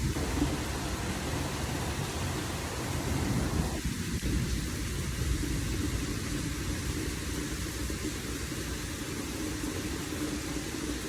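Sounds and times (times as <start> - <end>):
rainstorm rumble and hiss: 0.0 - 11.0.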